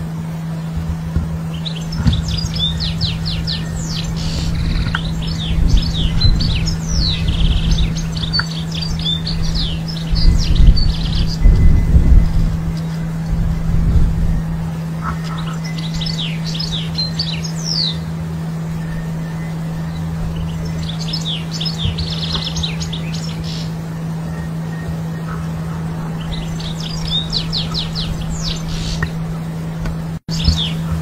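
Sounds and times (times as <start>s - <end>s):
steady low hum: 0.0s - 31.0s
bird twittering and trilling: 1.4s - 13.5s, 14.2s - 29.4s, 30.3s - 31.0s.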